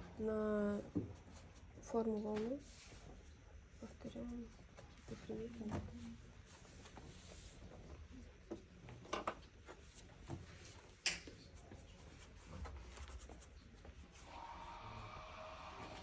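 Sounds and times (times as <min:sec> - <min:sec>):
paintbrush strokes on paper: 0:00.5 - 0:08.2, 0:09.7 - 0:14.9.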